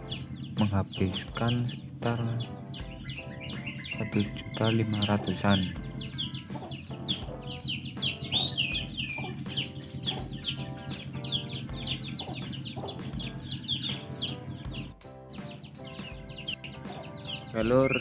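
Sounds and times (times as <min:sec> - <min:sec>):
background music with slow beat: 0:00.0 - 0:18.0
young chickens peeping: 0:00.0 - 0:18.0.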